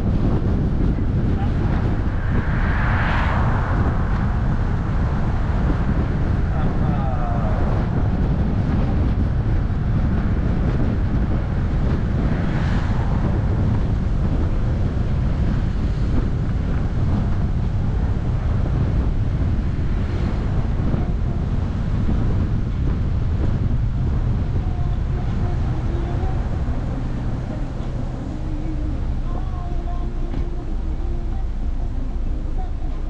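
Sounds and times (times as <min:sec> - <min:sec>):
car road noise: 0:00.0 - 0:33.0
wind buffeting microphone: 0:00.0 - 0:33.0.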